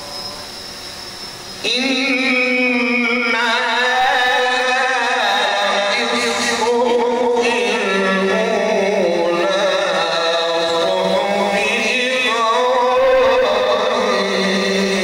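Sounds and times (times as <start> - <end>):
man reciting melodically: 1.6 - 15.0.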